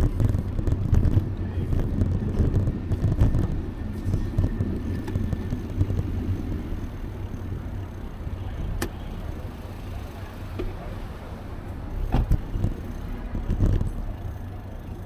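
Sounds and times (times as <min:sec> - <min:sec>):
wind and road rumble from bicycle: 0:00.0 - 0:15.0.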